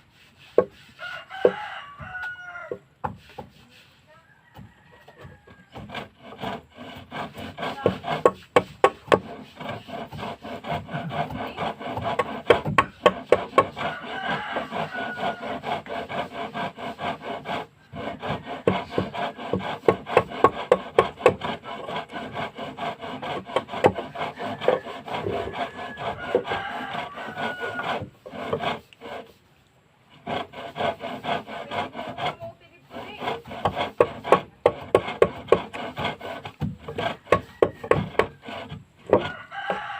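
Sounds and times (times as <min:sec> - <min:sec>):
hand tool scraping wood: 0:00.0 - 0:39.9.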